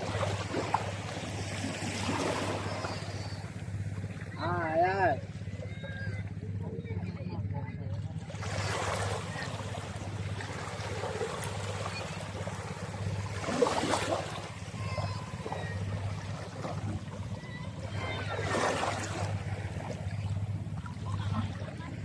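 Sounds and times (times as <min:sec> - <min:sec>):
rushing water: 0:00.0 - 0:06.1, 0:08.2 - 0:22.0
boat engine running: 0:00.0 - 0:22.0.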